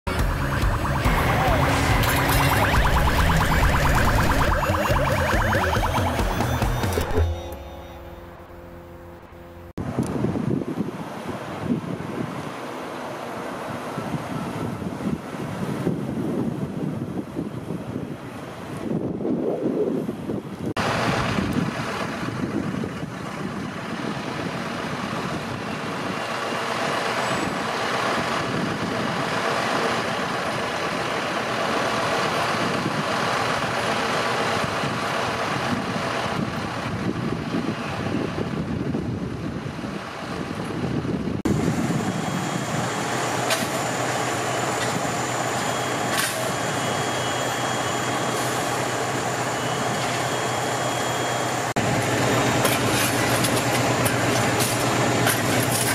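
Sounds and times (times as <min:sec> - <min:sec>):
diesel engines rumbling: 0:00.0 - 0:55.9.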